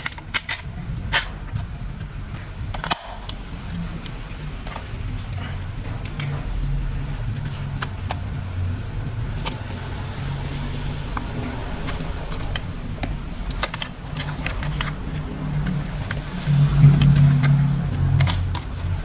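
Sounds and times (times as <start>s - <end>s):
plastic toy parts clicking and rattling: 0.0s - 9.8s, 10.7s - 19.0s
steady low hum: 0.0s - 19.0s.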